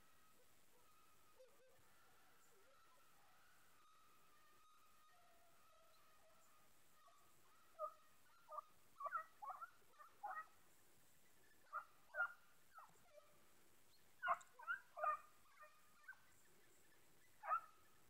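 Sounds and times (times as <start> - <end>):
distant hounds baying: 0.3 - 10.6, 11.4 - 18.0.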